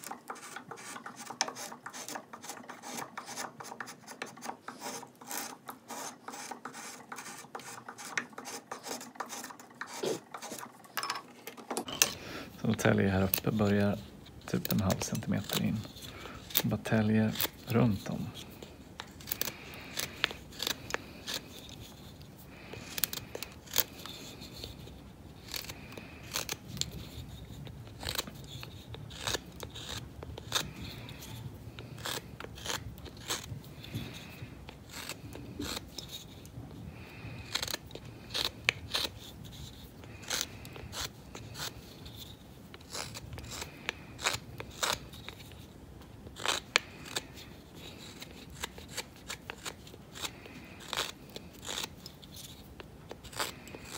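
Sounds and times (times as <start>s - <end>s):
knife whittling wood: 0.0s - 45.7s.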